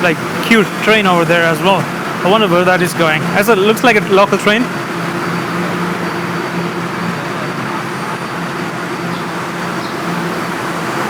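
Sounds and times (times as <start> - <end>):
train humming at platform: 0.0 - 11.0.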